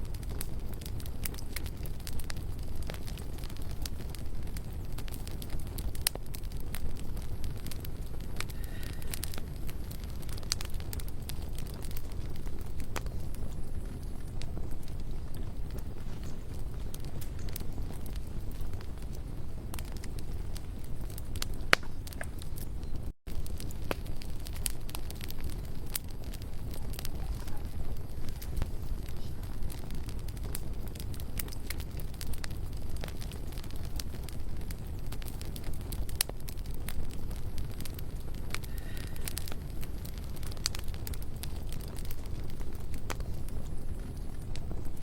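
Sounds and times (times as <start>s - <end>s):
campfire crackling and popping: 0.0s - 45.0s
low rumble of flames: 0.0s - 45.0s.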